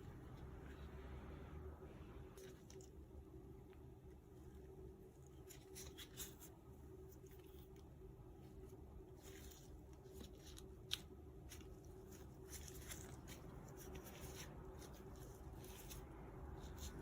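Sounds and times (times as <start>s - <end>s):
faint scraping and rustling: 0.0s - 17.0s
low steady hum: 0.0s - 17.0s.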